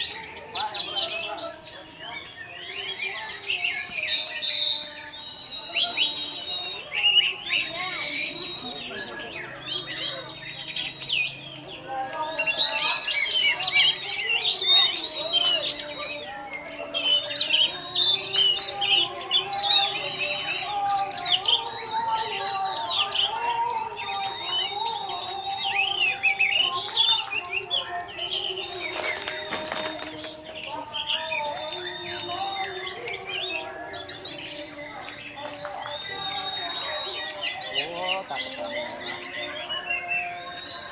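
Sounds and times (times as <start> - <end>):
thrush singing: 0.0 - 40.9.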